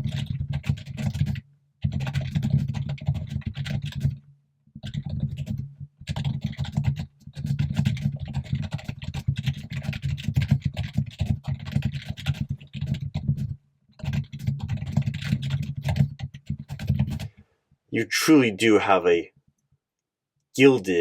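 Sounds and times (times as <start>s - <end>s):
rapid typing on keyboard: 0.0s - 4.2s, 4.8s - 17.4s.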